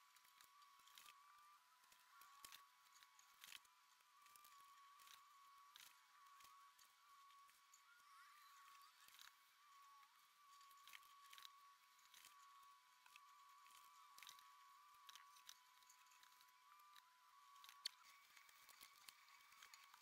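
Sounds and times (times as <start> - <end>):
faint steady high tone: 0.0 - 20.0.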